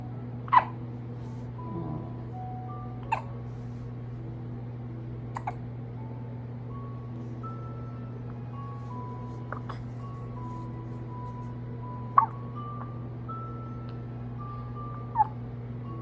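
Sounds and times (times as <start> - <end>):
low hum: 0.0 - 16.0
slow tune of held notes: 0.0 - 16.0.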